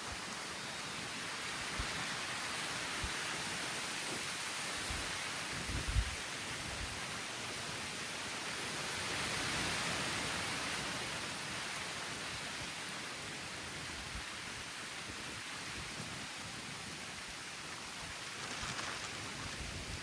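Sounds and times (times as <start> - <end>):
light rain in forest: 0.0 - 20.0.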